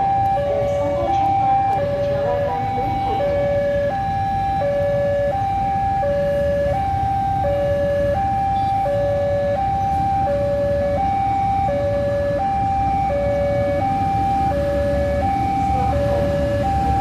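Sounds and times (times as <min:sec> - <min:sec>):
two-tone electronic alarm: 0:00.0 - 0:17.0.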